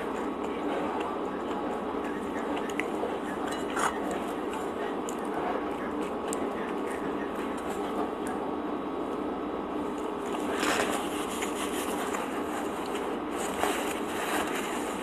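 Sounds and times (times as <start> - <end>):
tearing and chewing bread: 0.0 - 8.4, 9.8 - 15.0
background hum: 0.0 - 15.0.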